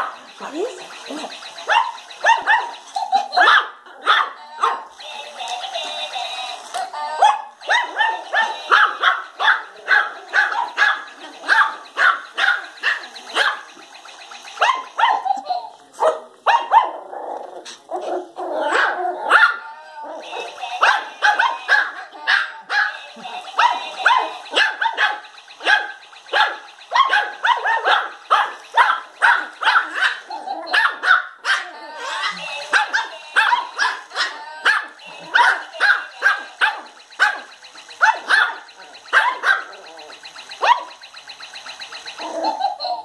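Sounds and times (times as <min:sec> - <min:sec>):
puppies yapping: 0:00.0 - 0:04.9, 0:06.4 - 0:43.0.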